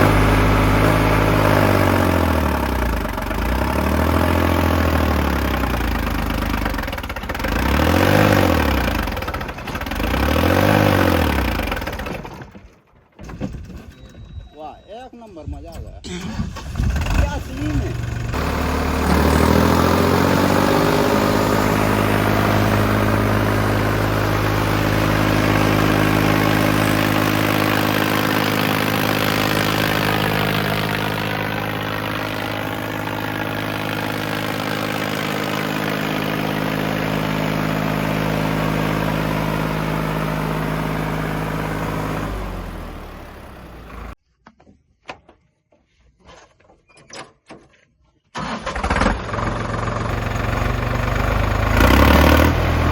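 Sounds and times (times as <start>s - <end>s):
diesel tractor engine revving: 0.0s - 12.6s, 16.1s - 44.2s, 48.4s - 52.9s.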